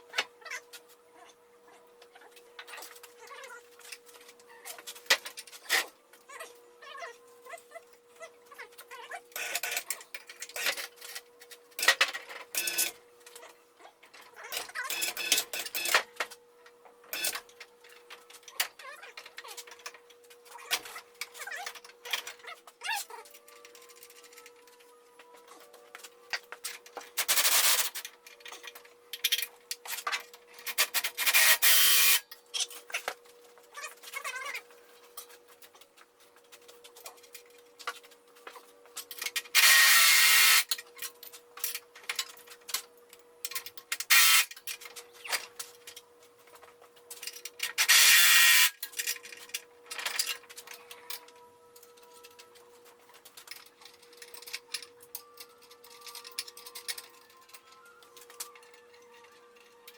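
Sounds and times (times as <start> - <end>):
metal parts clicking and scraping: 2.1 - 6.4, 8.5 - 16.4, 17.1 - 59.9.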